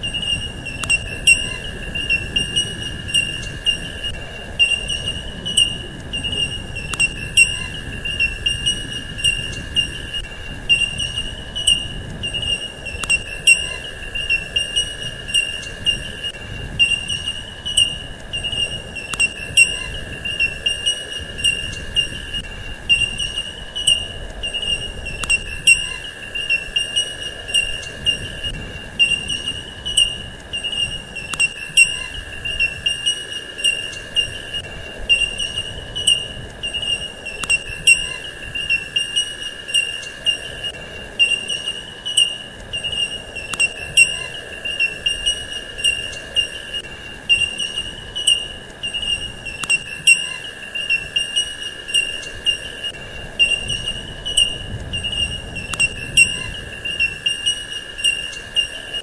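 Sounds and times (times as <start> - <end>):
sharp clicks: 0.0 - 52.4
high-pitched insect trill: 0.0 - 59.0.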